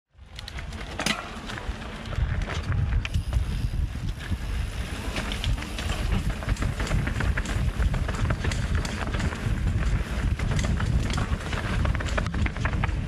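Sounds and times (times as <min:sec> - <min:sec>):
bike ticking and rattling on dirt: 0:00.1 - 0:13.0
wind buffeting microphone: 0:00.2 - 0:13.0.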